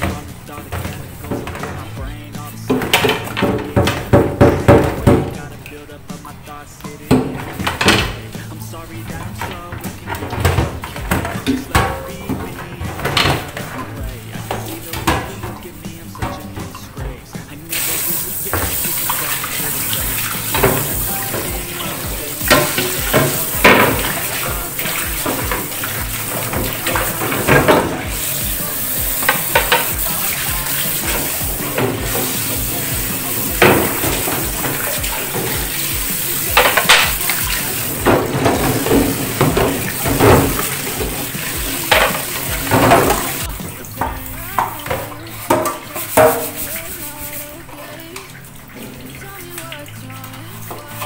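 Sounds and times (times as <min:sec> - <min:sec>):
knocks and clatter of dishes: 0:00.0 - 0:05.6, 0:07.0 - 0:17.8, 0:18.4 - 0:46.8
background music: 0:00.0 - 0:51.0
tap water running into sink: 0:00.0 - 0:51.0.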